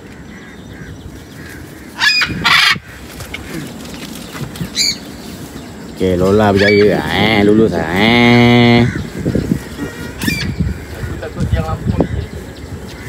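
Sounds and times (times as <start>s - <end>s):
macaws squawking: 0.0s - 13.0s.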